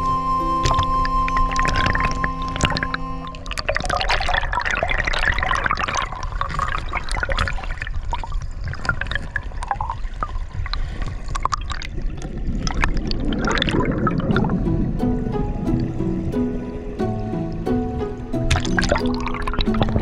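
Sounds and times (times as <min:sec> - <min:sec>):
underwater stream rushing: 0:00.0 - 0:20.0
bubbles clicking and popping: 0:00.6 - 0:16.4, 0:18.4 - 0:20.0.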